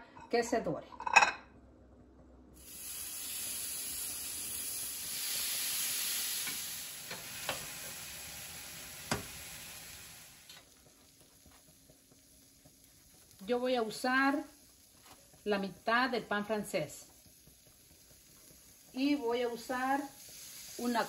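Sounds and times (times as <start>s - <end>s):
vegetables sizzling on a griddle: 2.6s - 21.0s.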